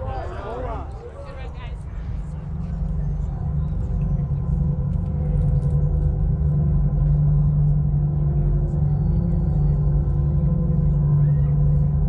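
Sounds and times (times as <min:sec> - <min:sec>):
drum corps low drone: 0:00.0 - 0:12.0.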